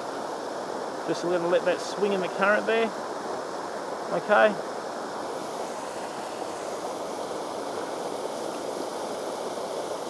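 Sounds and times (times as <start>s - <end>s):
river water rushing over rapids: 0.0s - 10.0s.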